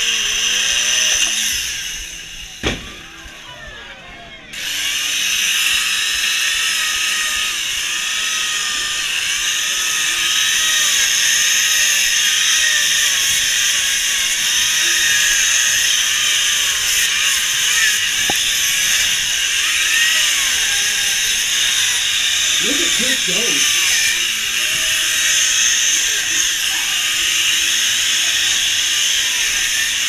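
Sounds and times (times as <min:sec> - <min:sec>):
chainsaws cutting ice: 0:00.0 - 0:02.6, 0:04.5 - 0:30.0.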